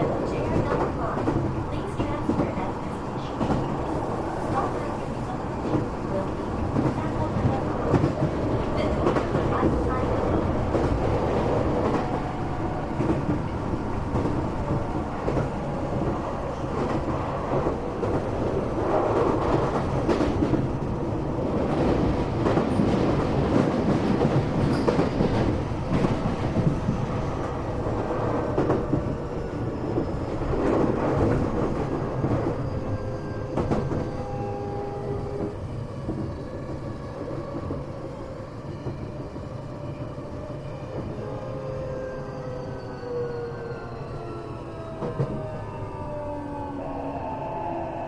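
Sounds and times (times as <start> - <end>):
clickety-clack over rail joints: 0.0 - 38.1, 44.9 - 45.5
train wheels rumbling on rails: 0.0 - 48.0.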